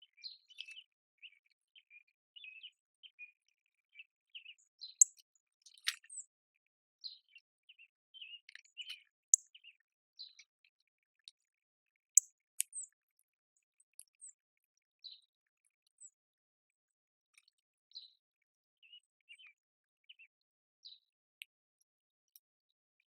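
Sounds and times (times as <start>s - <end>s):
small songbirds chirping: 0.0s - 23.0s.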